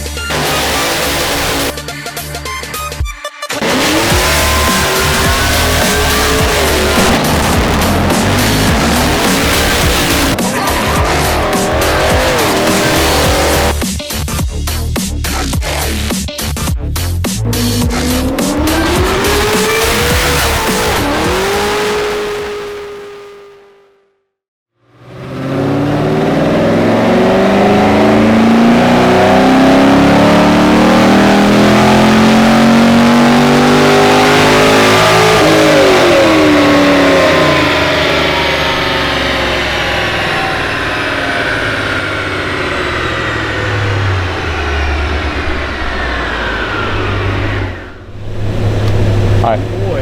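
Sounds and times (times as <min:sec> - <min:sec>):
vehicle engine accelerating: 0:00.0 - 0:01.9, 0:03.6 - 0:24.2, 0:24.8 - 0:50.0.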